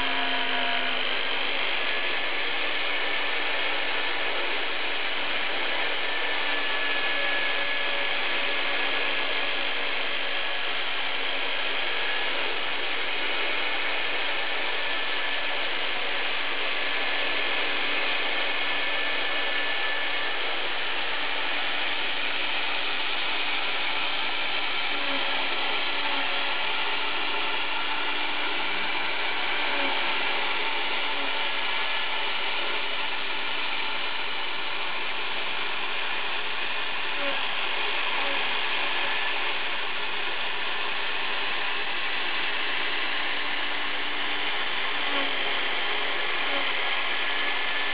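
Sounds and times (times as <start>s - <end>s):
router motor cutting: 0.0s - 47.9s
vacuum drawing air: 0.0s - 47.9s.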